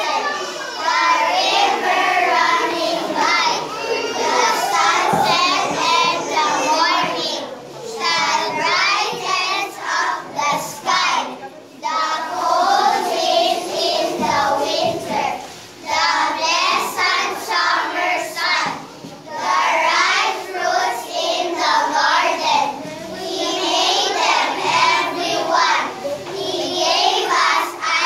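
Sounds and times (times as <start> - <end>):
children singing in unison: 0.0 - 28.0.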